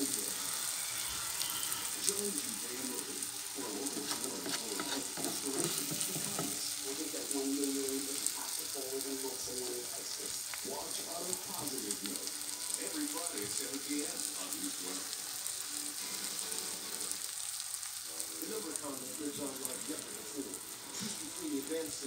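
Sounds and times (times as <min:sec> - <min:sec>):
pancake sizzling in oil: 0:00.0 - 0:22.0.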